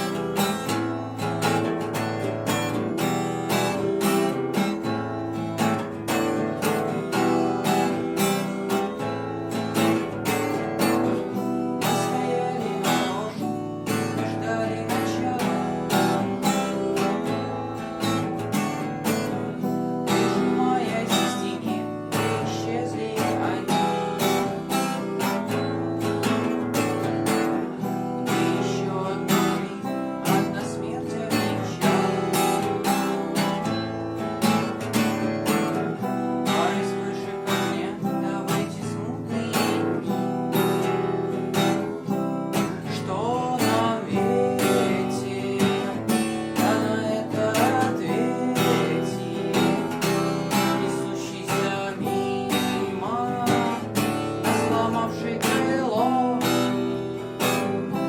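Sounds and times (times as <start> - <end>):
acoustic guitar strummed chords: 0.0 - 58.0.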